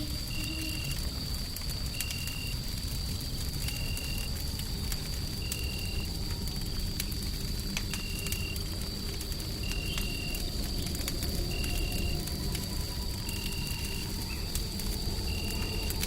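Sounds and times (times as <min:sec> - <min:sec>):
rumbling white noise: 0:00.0 - 0:16.0
wood fire crackling: 0:00.0 - 0:16.0.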